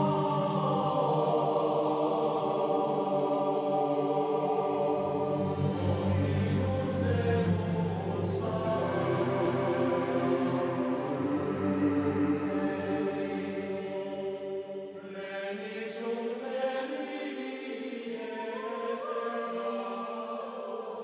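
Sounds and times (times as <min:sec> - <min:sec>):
choir-like voices holding notes: 0:00.0 - 0:21.0.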